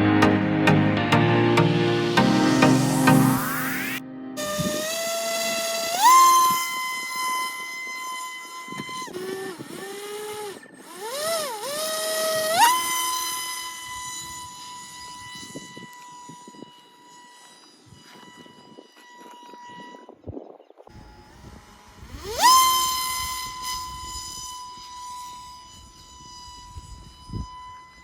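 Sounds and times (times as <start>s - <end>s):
model plane electric motor whining: 2.7s - 28.0s.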